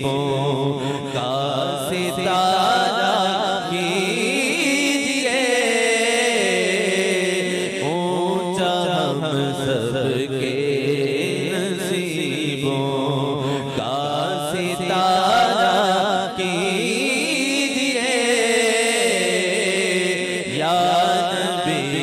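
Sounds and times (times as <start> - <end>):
man singing devotional song: 0.0 - 22.0.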